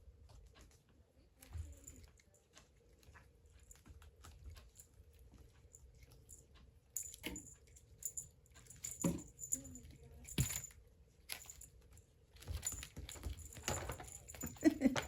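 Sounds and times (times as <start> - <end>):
cat claws ticking and scratching: 0.0 - 15.0.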